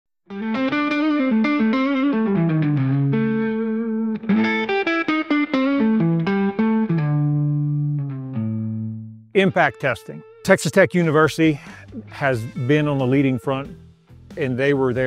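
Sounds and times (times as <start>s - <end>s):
picked guitar riff: 0.3s - 13.9s.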